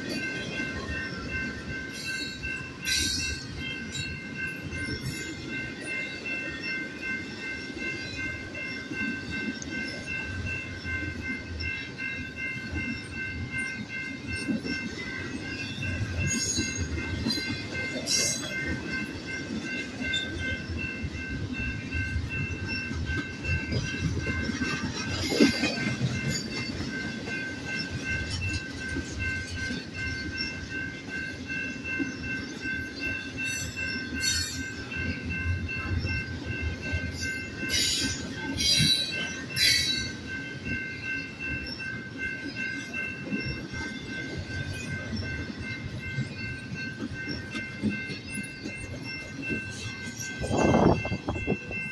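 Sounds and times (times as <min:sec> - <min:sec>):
crossing bell dinging: 0:00.0 - 0:51.9
train wheels clattering on rails: 0:00.0 - 0:51.9.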